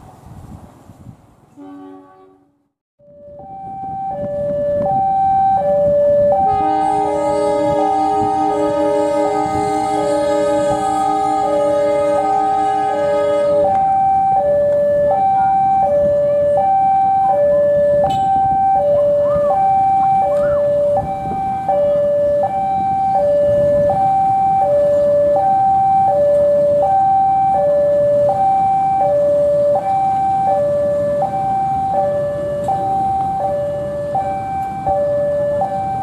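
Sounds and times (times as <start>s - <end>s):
level crossing two-tone alarm: 3.0s - 36.0s.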